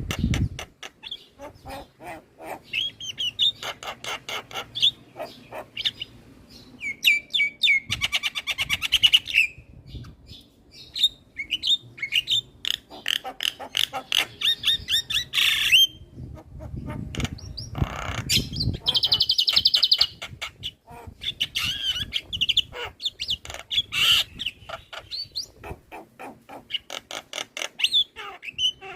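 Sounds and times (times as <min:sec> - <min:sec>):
myna bird song: 0:00.0 - 0:28.9.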